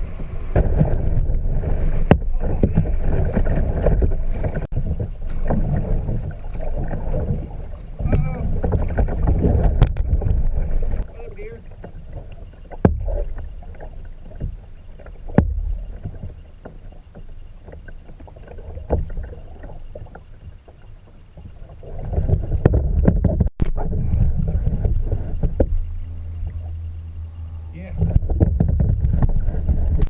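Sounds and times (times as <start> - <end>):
water noise: 0.0 - 30.0
wind rumble on microphone: 0.0 - 30.0.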